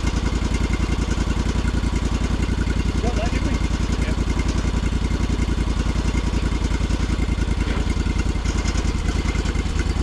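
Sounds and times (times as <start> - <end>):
sawmill engine running: 0.0 - 10.0.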